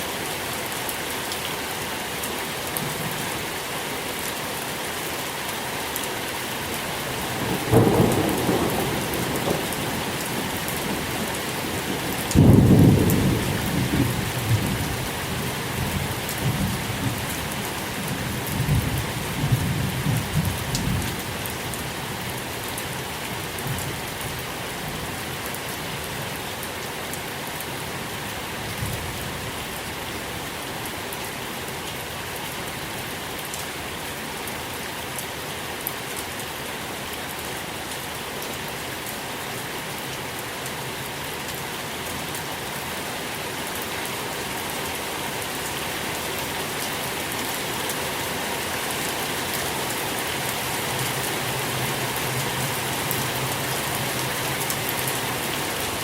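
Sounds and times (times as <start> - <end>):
louder rain patters: 0.0 - 56.0
steady rain: 0.0 - 56.0.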